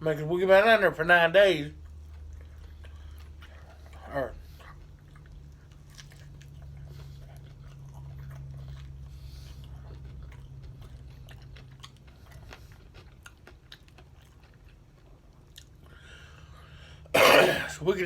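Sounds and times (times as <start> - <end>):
faint low hum: 0.0 - 18.0
chewing chicken wings: 1.5 - 17.3.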